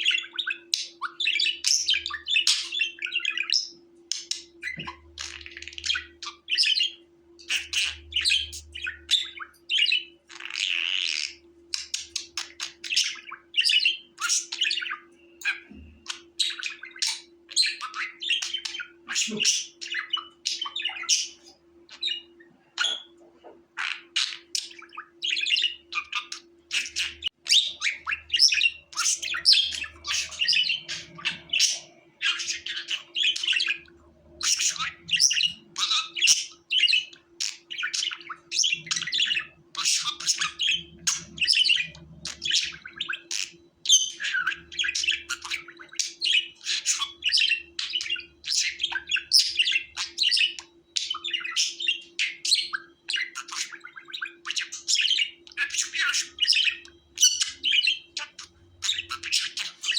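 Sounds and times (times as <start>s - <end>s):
budgerigar chirping and warbling: 0.0s - 59.9s
faint steady hum: 0.0s - 59.9s.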